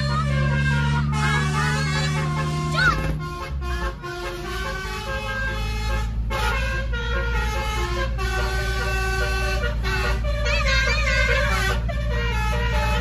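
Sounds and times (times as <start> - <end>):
multi-tone air horn melody: 0.0 - 13.0.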